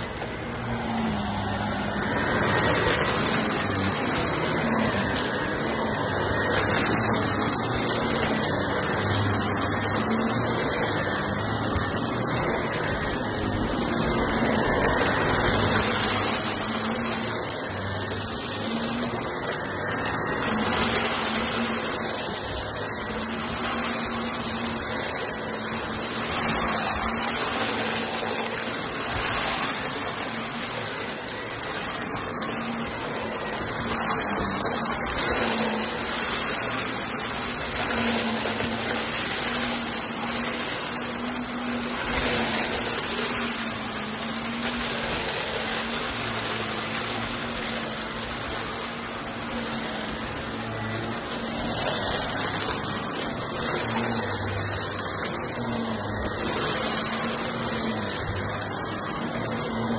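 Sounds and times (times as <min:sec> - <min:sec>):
upright vacuum running on rug: 0:00.0 - 0:59.9.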